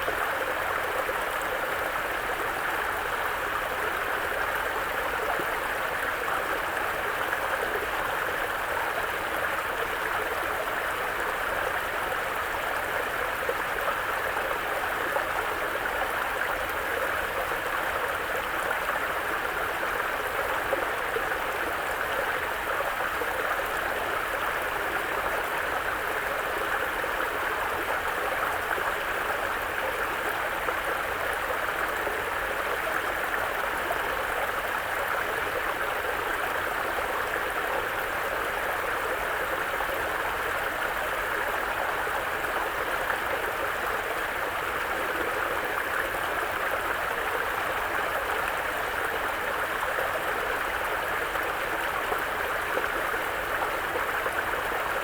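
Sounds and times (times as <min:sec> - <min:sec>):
brook flowing over rocks: 0:00.0 - 0:55.0.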